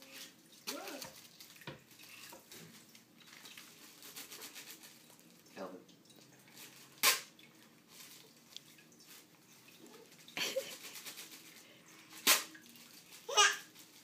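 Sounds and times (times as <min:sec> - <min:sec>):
plastic crinkling: 0:00.1 - 0:05.5, 0:06.6 - 0:14.0.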